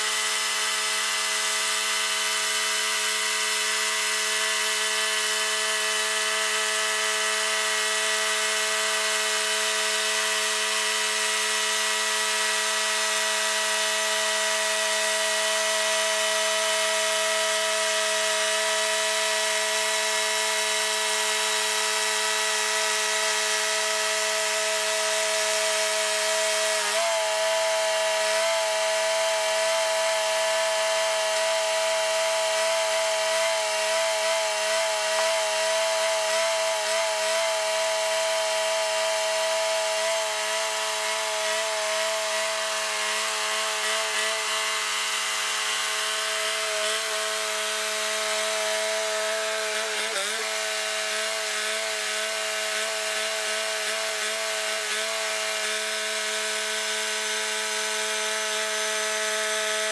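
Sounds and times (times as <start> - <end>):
saw blade hissing through wood: 0.0 - 59.9
sawmill engine running under load: 0.0 - 59.9.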